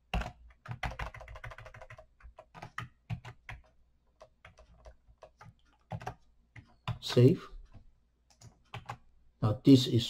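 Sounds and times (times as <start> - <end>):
keyboard typing: 0.0 - 9.1.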